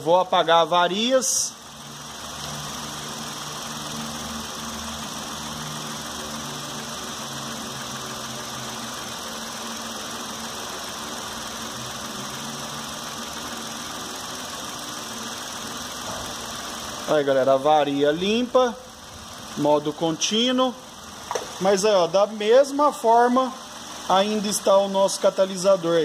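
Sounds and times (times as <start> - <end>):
car engine idling: 3.0 - 26.0.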